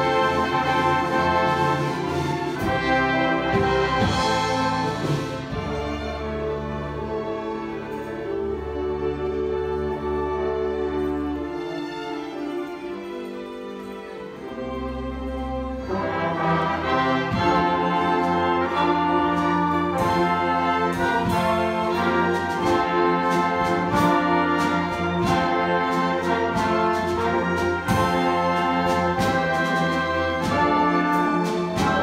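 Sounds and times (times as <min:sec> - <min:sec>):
orchestra playing: 0:00.0 - 0:32.0.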